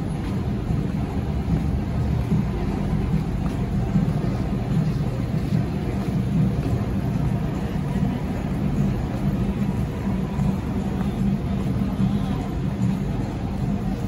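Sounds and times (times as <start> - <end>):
cars moving slowly: 0.0 - 14.0.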